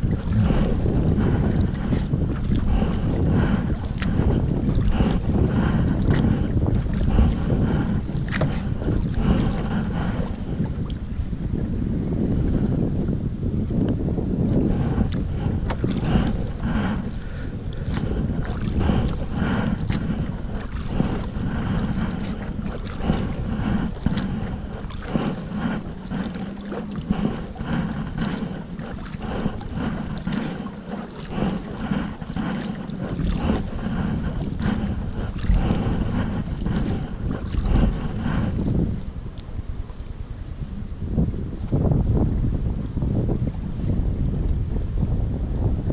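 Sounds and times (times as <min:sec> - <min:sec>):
paddle splashes and drips: 0:00.0 - 0:11.2, 0:14.5 - 0:40.6
wind buffeting microphone: 0:00.0 - 0:45.9.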